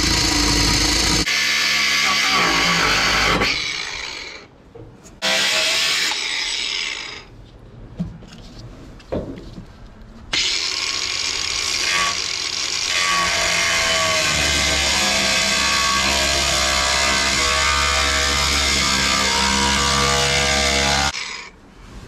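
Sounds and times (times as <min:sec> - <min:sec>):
angle grinder cutting metal: 0:00.0 - 0:04.5, 0:05.2 - 0:07.3, 0:10.4 - 0:21.6.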